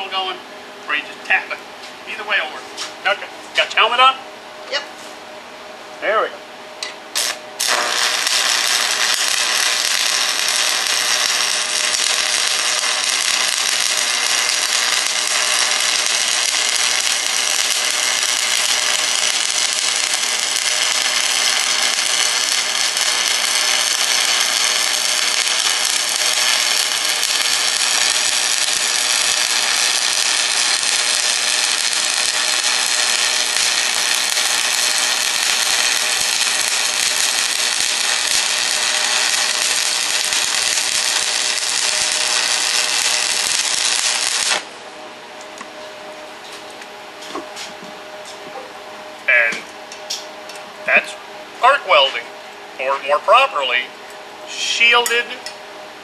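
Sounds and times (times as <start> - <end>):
welding arc sizzling: 6.8 - 45.9, 49.2 - 55.6.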